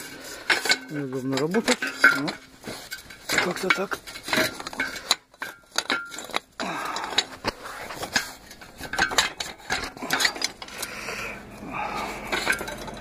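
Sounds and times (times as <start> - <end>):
metal scraping on metal: 0.0 - 13.0
metal tubing clinking and knocking: 0.0 - 13.0.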